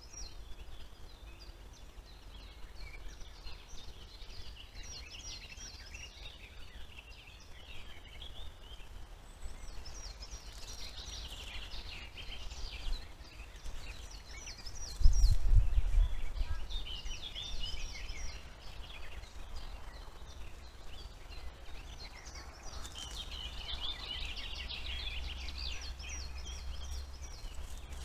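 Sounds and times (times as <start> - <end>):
faint low rumble: 0.0 - 28.0
songbirds chirping and trilling: 0.0 - 28.0.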